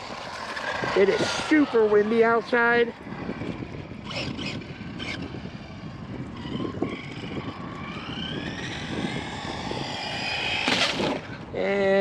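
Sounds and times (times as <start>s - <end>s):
electric motor whining: 0.0s - 12.0s
wind buffeting on microphone: 0.0s - 12.0s.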